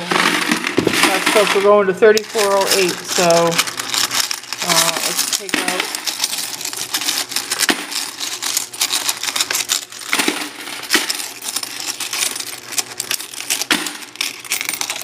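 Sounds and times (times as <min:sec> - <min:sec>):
coins clinking and clattering: 0:00.0 - 0:15.0.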